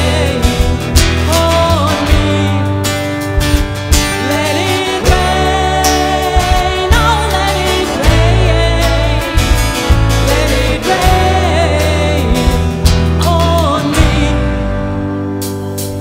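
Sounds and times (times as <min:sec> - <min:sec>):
person singing: 0:00.0 - 0:03.2, 0:04.0 - 0:15.0
live band playing: 0:00.0 - 0:16.0.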